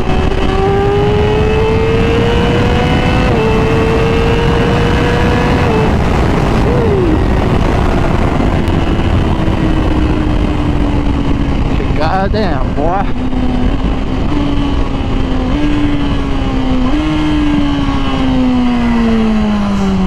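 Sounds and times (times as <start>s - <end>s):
motorcycle engine revving: 0.0s - 20.0s
wind rushing over microphone: 0.0s - 20.0s.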